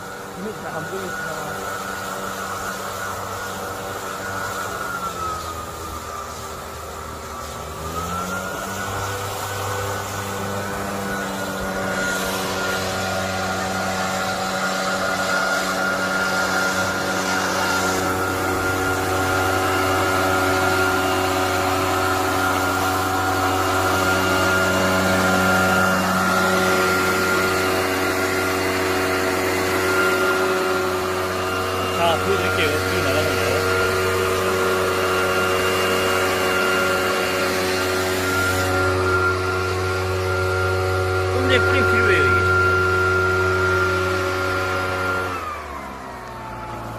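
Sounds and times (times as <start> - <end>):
blower fan: 0.0 - 46.9
small engine revving: 0.0 - 46.9.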